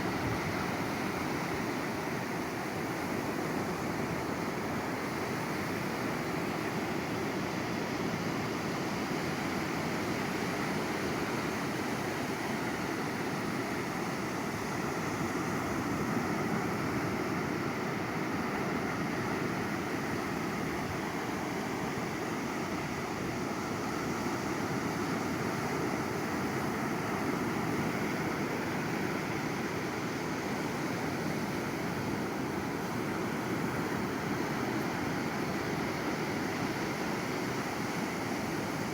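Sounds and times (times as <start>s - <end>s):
waves washing ashore: 0.0s - 38.9s.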